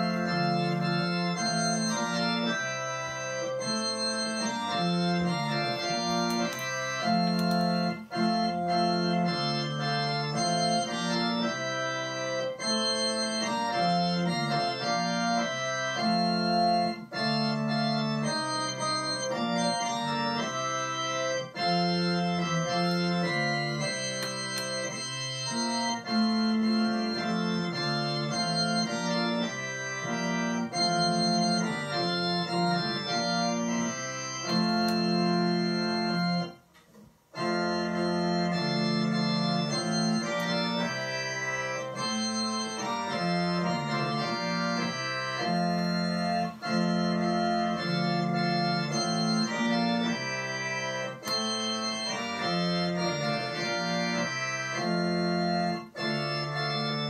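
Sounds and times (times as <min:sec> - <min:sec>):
organ playing hymn chords: 0:00.0 - 0:57.0.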